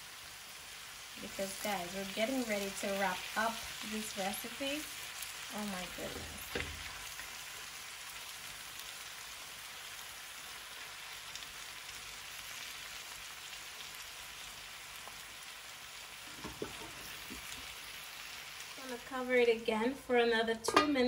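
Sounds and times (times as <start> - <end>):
food sizzling in a skillet: 0.0 - 21.0.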